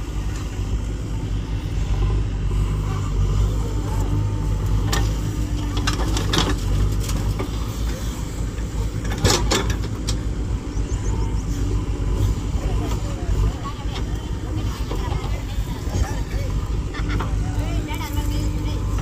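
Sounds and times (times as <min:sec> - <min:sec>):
diesel engine under hydraulic load: 0:00.0 - 0:19.0.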